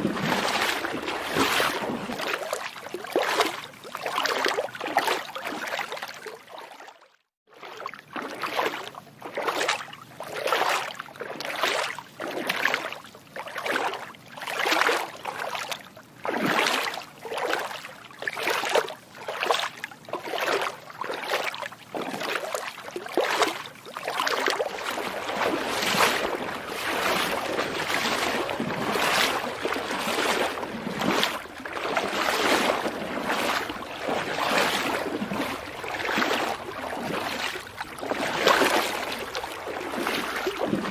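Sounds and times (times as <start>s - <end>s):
feet splashing through shallow water: 0.0s - 40.9s.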